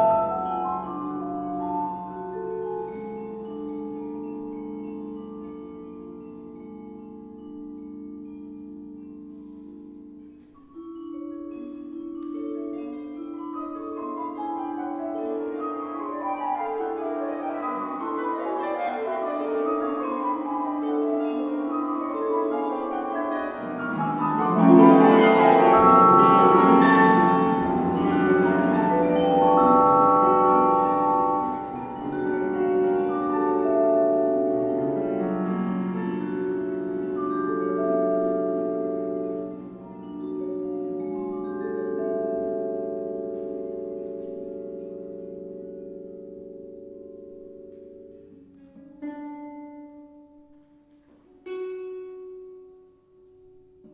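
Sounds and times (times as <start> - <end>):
ringing vibraphone tones: 0.0 - 48.3
chamber ensemble playing: 0.0 - 52.6.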